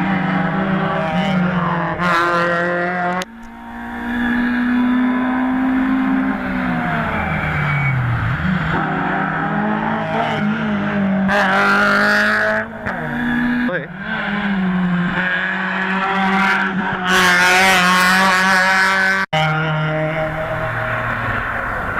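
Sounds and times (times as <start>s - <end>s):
race car engine revving: 0.0s - 21.9s.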